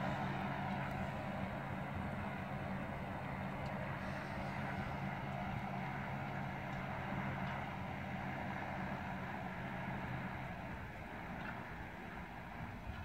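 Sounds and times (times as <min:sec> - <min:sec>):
distant tractor engine droning: 0:00.0 - 0:13.0.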